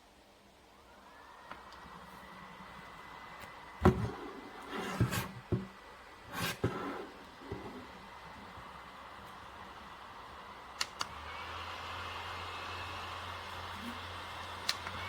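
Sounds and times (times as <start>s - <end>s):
fan airflow hiss: 0.0s - 15.0s
desk fan motor whine: 0.8s - 15.0s.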